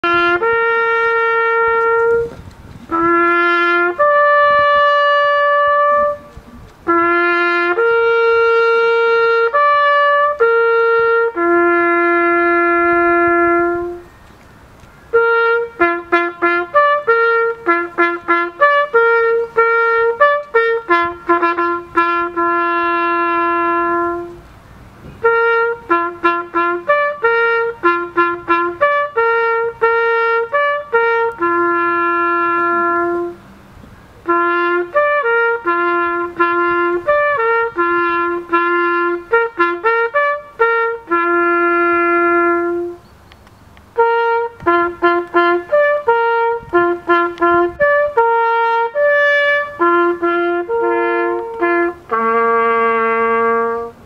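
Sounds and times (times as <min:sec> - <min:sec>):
trumpet playing a slow melody: 0:00.0 - 0:14.3, 0:15.0 - 0:43.1, 0:43.9 - 0:54.0.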